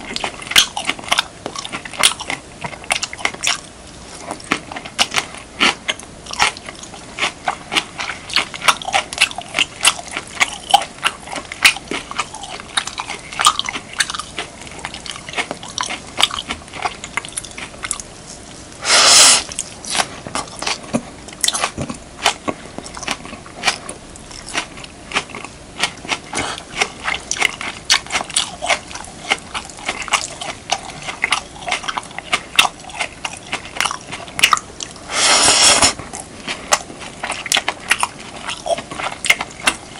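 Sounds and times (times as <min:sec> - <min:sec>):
wet chewing mouth sounds: 0:00.0 - 0:39.9.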